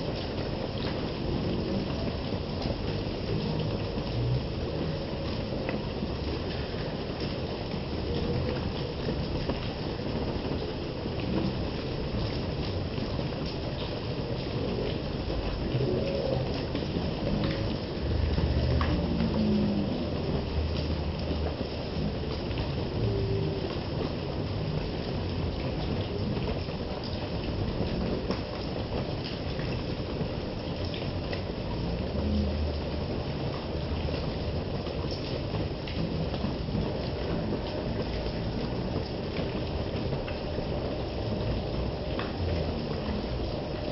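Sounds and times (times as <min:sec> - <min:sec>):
heavy rain on muddy ground: 0:00.0 - 0:43.9.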